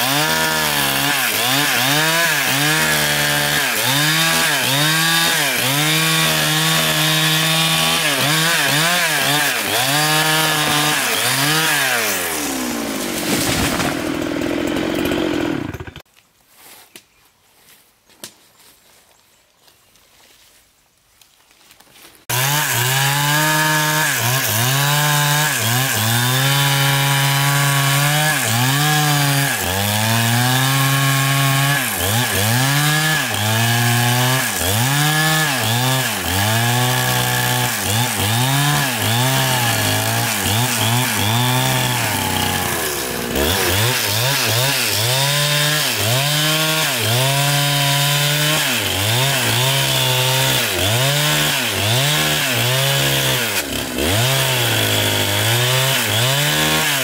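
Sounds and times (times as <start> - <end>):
chainsaw cutting wood: 0.0 - 16.1, 22.2 - 57.0.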